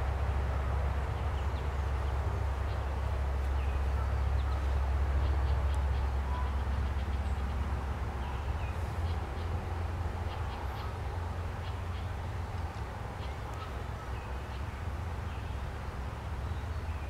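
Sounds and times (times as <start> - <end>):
small birds chirping: 1.1 - 17.0.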